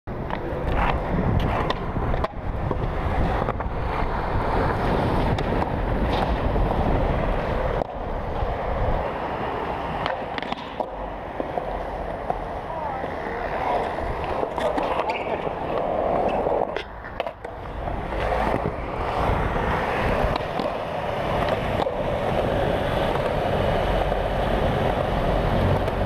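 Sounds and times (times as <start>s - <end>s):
skateboard clacks: 0.1s - 26.0s
skateboard wheels rolling on concrete: 0.1s - 26.0s
skateboard truck grinding on ledge: 0.6s - 26.0s.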